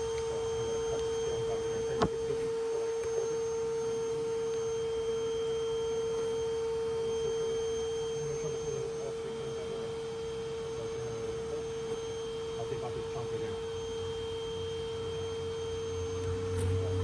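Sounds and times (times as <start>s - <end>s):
high-pitched steady hum: 0.0s - 17.0s.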